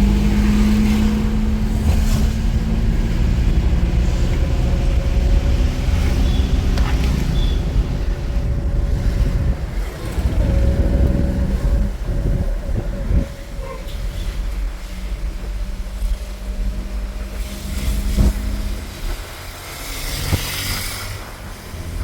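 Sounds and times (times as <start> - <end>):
road rumble: 0.0 - 22.0
vehicle engine hum: 0.0 - 22.0.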